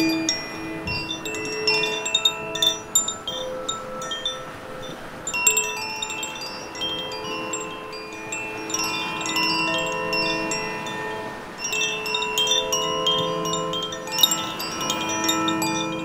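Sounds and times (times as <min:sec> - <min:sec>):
waves on rocks: 0:00.0 - 0:16.0
wind chime ringing: 0:00.0 - 0:16.0.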